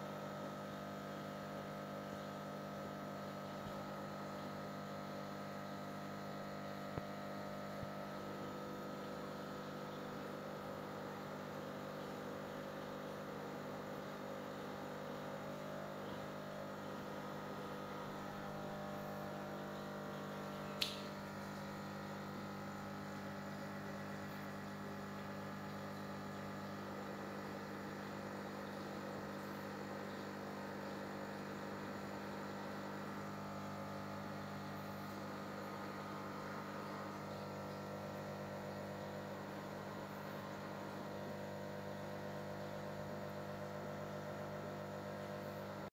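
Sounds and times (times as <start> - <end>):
aquarium equipment hum: 0.0 - 45.9.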